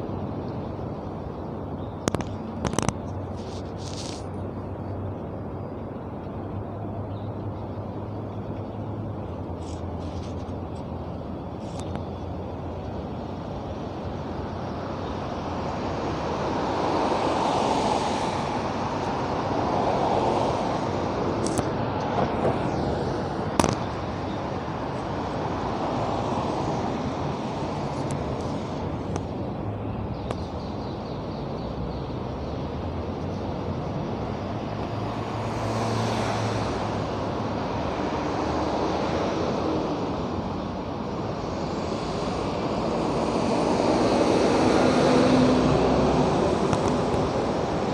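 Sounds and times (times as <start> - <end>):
vehicles passing: 0.0 - 47.9.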